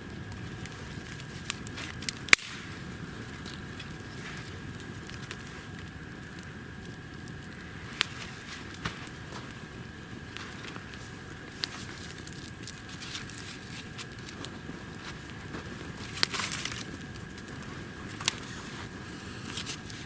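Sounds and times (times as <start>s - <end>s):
campfire crackling: 0.0s - 20.0s
sharp pops from fire: 0.1s - 20.0s.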